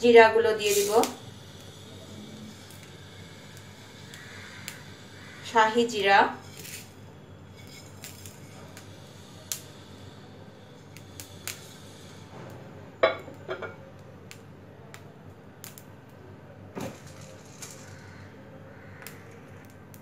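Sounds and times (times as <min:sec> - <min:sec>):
low steady hum: 0:00.0 - 0:20.0
spices popping in a pan: 0:00.0 - 0:20.0.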